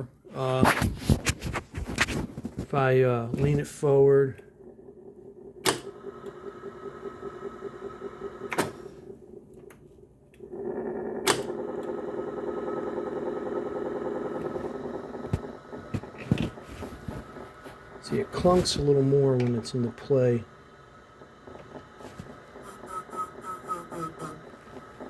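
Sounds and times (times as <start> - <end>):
tape deck whirring: 3.2 - 25.0.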